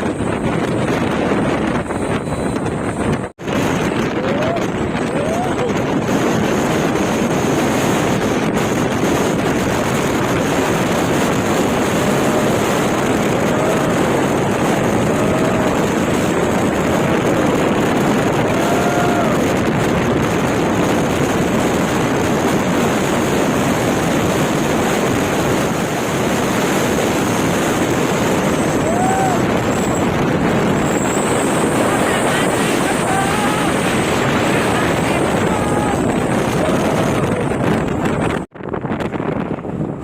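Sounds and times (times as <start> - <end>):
wind on microphone: 0.0 - 40.0.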